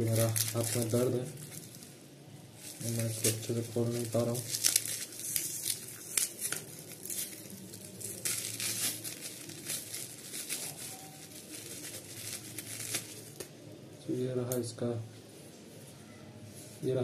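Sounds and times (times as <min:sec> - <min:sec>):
plastic wrap crinkling and tearing: 0:00.0 - 0:13.6.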